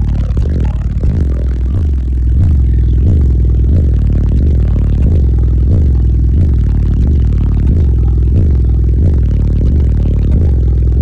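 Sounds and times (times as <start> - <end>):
bass-heavy music from car subwoofers: 0.0 - 11.0
rattling in car: 0.0 - 11.0.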